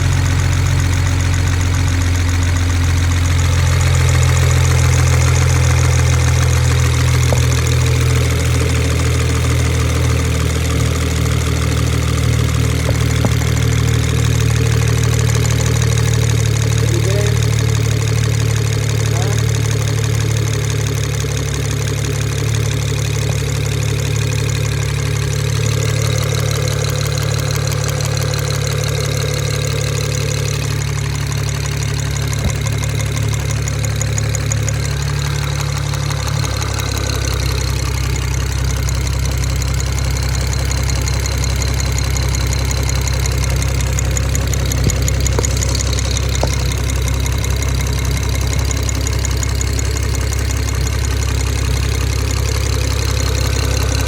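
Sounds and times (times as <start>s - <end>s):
car engine idling: 0.0s - 54.0s
fast light engine ticking: 0.0s - 54.0s.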